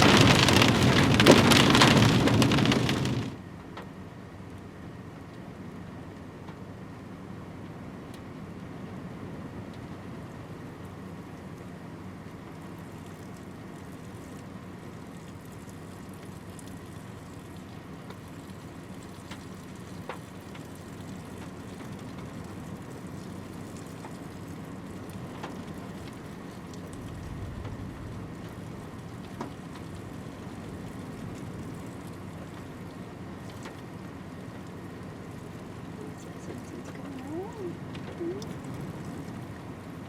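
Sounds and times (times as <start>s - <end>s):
road and engine noise: 0.0s - 40.0s.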